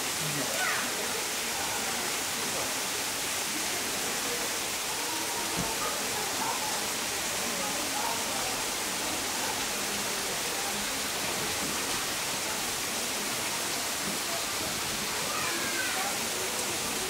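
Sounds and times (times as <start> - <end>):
faint distant voices: 0.0 - 17.0
flowing water: 0.0 - 17.0.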